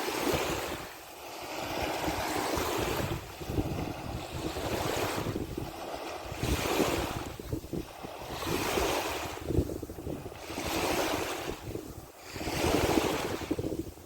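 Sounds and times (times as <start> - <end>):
sea water washing in surges: 0.0 - 14.0
wind buffeting microphone: 0.0 - 14.0.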